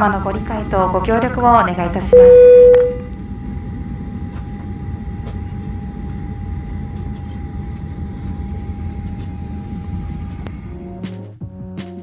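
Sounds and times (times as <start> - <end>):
jet engines idling rumble: 0.0 - 10.8
thin steady whine: 0.0 - 10.8.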